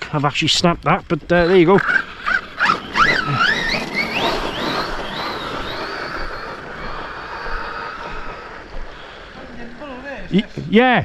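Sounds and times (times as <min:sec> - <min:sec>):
electric motor whining: 0:01.3 - 0:10.5.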